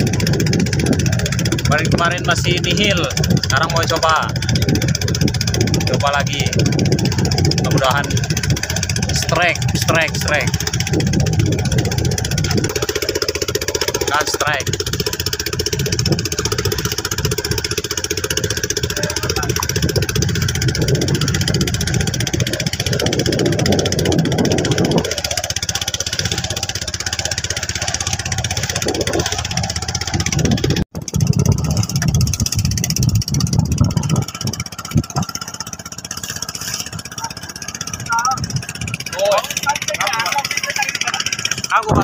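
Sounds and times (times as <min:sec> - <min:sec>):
small boat engine running: 0:00.0 - 0:42.0.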